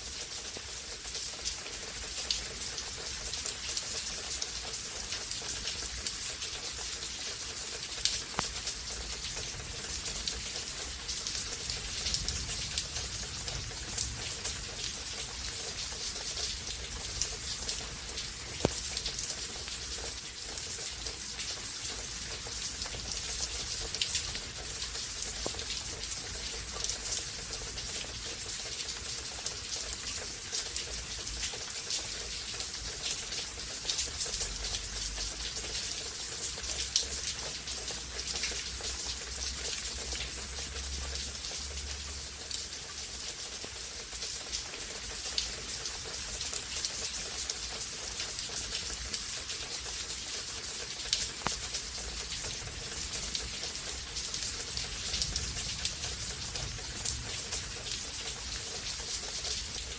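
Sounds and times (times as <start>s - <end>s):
rain drops pattering: 0.0s - 59.9s.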